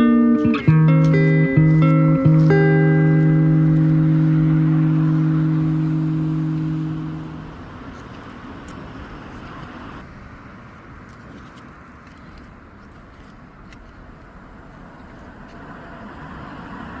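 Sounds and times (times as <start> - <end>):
road traffic hiss: 0.0 - 17.0.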